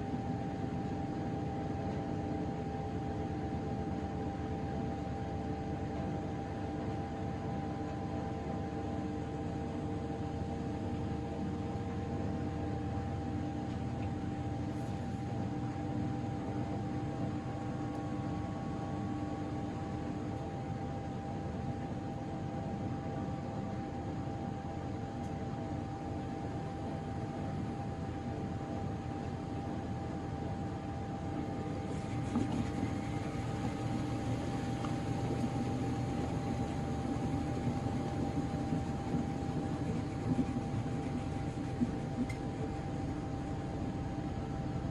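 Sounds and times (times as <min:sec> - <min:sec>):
washing machine spinning: 0:00.0 - 0:44.9.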